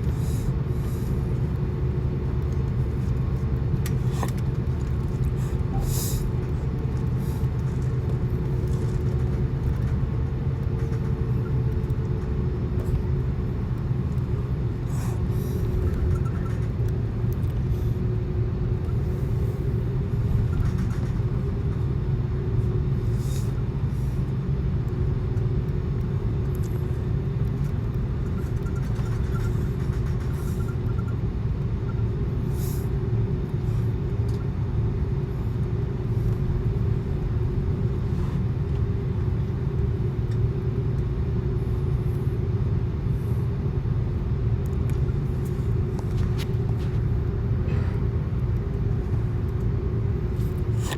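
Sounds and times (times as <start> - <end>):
airliner cabin engine rumble: 0.0 - 50.9
constant hum: 0.0 - 50.9.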